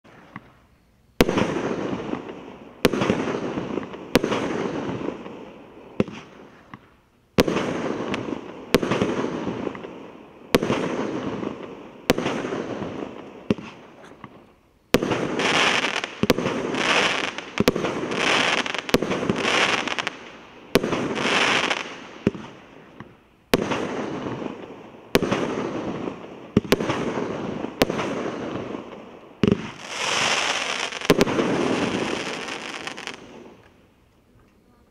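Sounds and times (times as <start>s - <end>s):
firework bangs: 1.2s - 33.7s
firework rush and sizzle: 1.2s - 33.8s.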